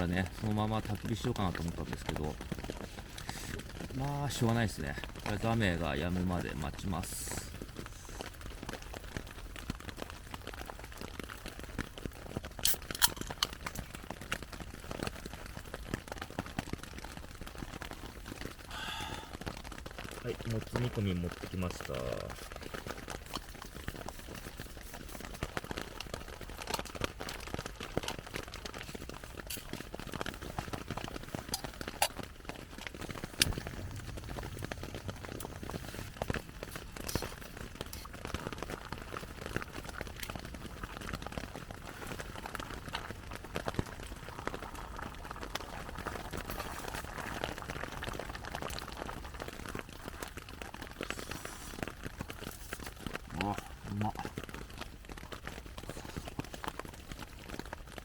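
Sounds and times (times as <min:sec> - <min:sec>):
rain on a tarp: 0:00.0 - 0:58.0
stew simmering in a pot: 0:00.0 - 0:58.0.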